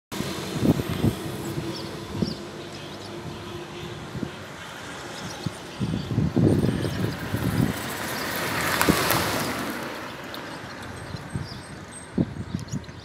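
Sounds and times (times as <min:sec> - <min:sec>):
vehicle passing: 0:00.1 - 0:12.4.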